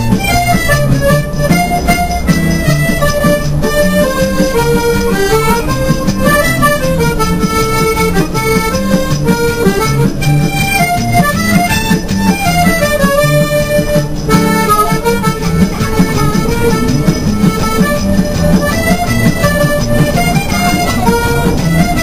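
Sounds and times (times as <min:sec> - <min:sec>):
accordion music: 0:00.0 - 0:22.0.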